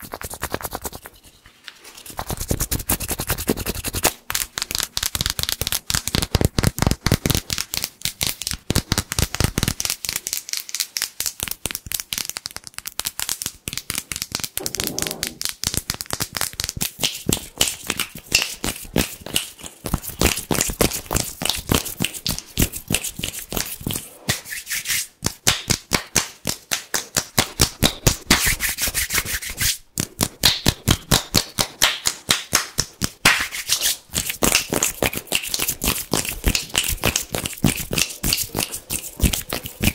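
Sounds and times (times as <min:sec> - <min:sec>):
hands rubbing and tapping: 0:00.0 - 0:39.9.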